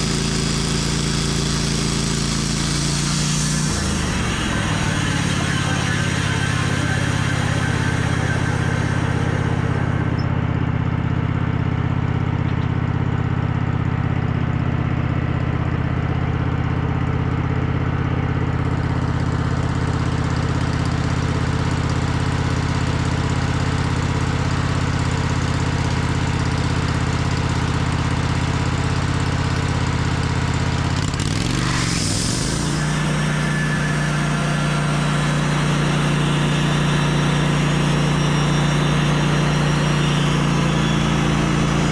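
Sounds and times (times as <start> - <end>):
sawmill engine cutting log: 0.0 - 14.2, 16.3 - 41.9.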